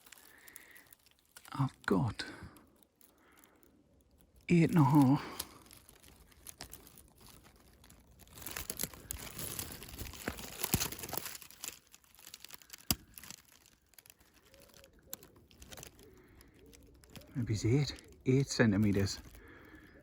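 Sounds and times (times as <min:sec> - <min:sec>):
leaves and twigs rustling: 0:00.0 - 0:20.0.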